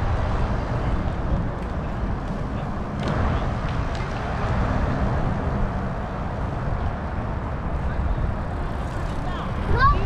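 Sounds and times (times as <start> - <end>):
distant traffic: 0.0 - 10.0.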